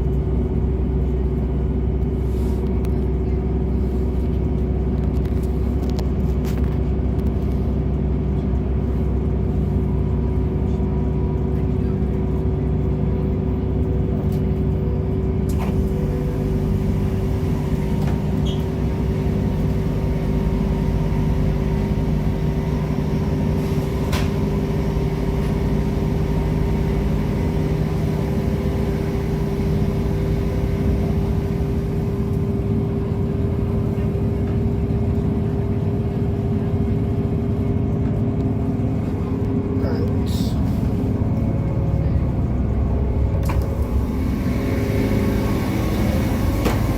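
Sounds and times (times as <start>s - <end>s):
train engine drone: 0.0s - 46.9s.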